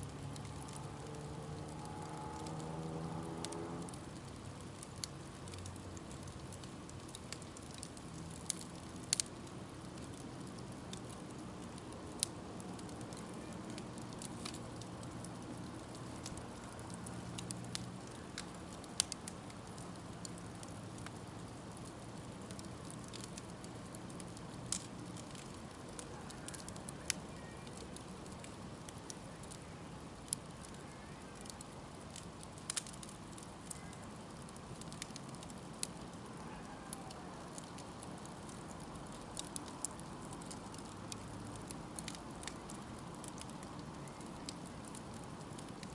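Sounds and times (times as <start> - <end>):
burning wood crackling and popping: 0.0 - 45.9
hiss of flames: 0.0 - 45.9.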